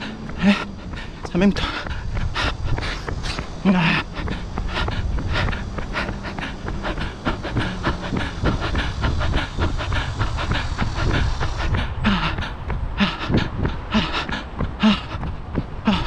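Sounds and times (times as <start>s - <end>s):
hard hissing breaths: 0.0s - 16.0s
low rumble: 0.0s - 16.0s
running footsteps on pavement: 0.0s - 16.0s.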